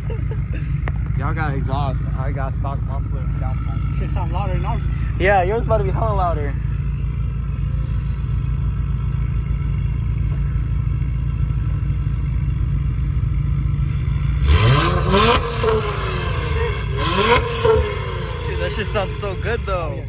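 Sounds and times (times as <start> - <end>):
car engine idling: 0.0 - 20.0
car engine revving: 0.0 - 20.0.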